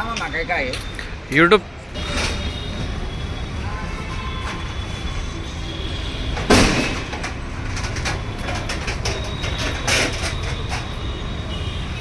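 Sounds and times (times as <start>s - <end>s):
buses idling: 0.0s - 12.0s.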